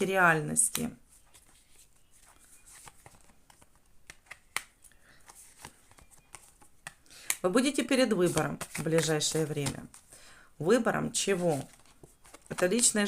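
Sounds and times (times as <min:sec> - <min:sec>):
cards clicking and rustling: 0:01.3 - 0:10.0, 0:11.2 - 0:13.0.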